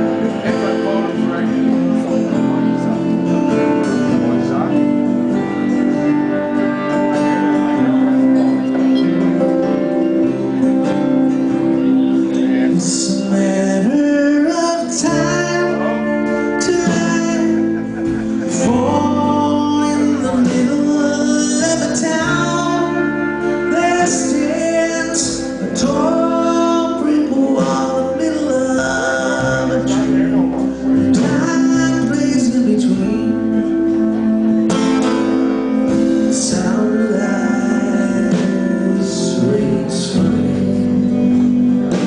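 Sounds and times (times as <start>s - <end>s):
band playing folk-rock on guitars: 0.0s - 42.0s
person singing: 0.0s - 42.0s.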